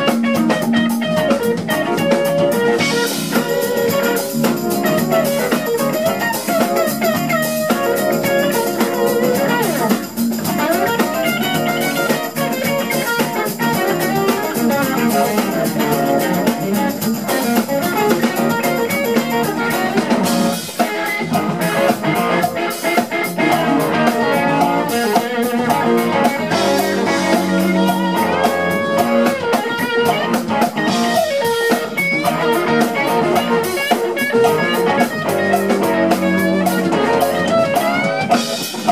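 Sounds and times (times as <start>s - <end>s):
drum cymbals: 0.0s - 38.9s
electric guitar with bent notes: 0.0s - 38.9s
funk band playing: 0.0s - 38.9s.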